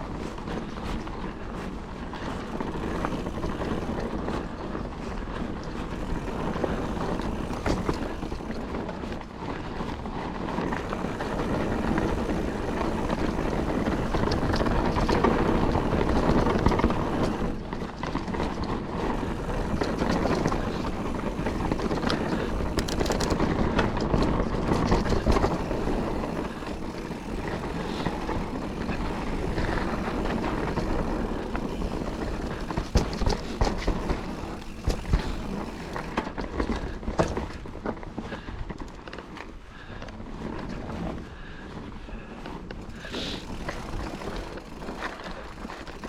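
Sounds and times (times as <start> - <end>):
bike rattling and knocking: 0.0 - 46.0
bike tyres rumbling on dirt: 0.0 - 46.0.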